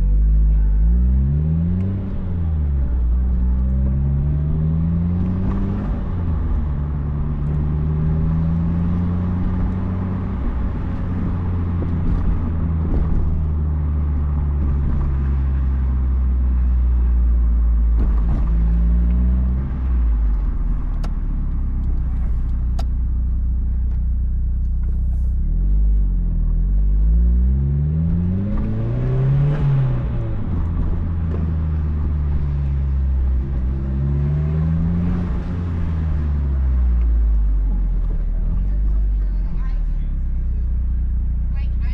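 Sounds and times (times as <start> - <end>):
car engine revving while driving: 0.0 - 41.6
low exhaust rumble: 0.0 - 41.9.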